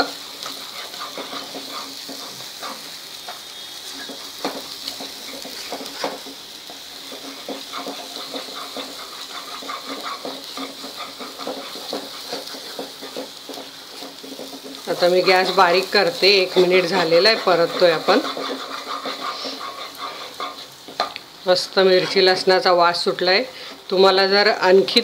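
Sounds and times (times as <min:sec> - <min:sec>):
wooden spatula scraping pan: 0:00.0 - 0:21.1, 0:21.9 - 0:22.5
paste sizzling in oil: 0:00.0 - 0:25.0.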